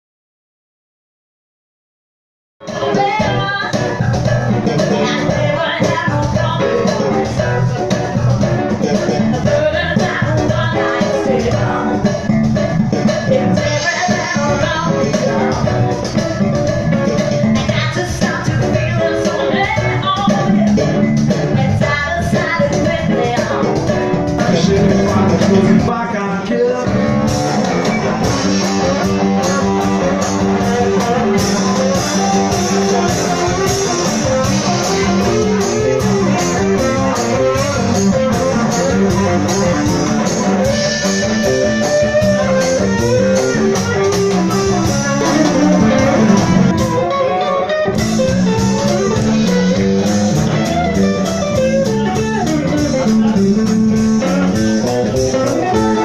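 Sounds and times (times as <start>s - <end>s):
electric guitar: 2.6s - 56.0s
live band playing: 2.6s - 56.0s.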